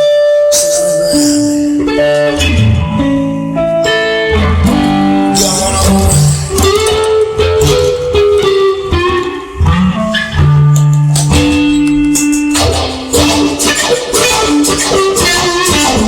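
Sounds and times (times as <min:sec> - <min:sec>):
bluesy electric guitar: 0:00.0 - 0:16.0
bass line: 0:01.4 - 0:16.0.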